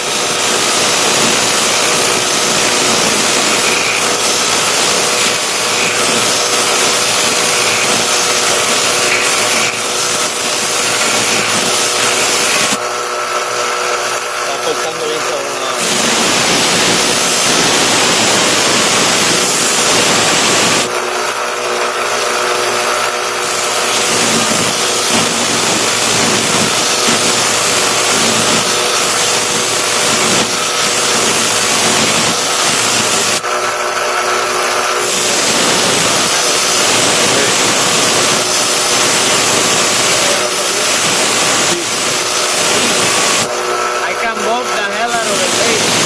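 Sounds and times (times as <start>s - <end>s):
belt grinder motor hum: 0.0s - 46.0s
blade grinding hiss: 0.0s - 46.0s.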